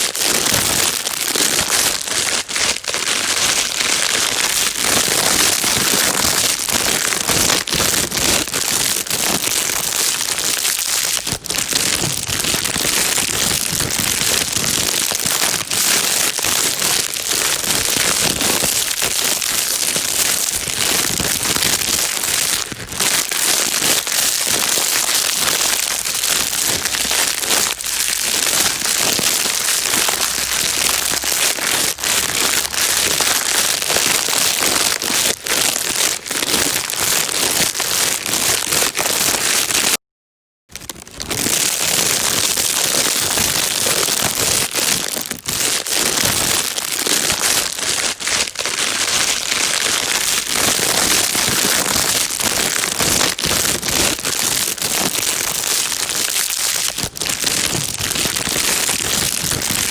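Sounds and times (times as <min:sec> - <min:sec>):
plastic bag crinkling: 0:00.0 - 0:40.0, 0:40.7 - 0:59.9.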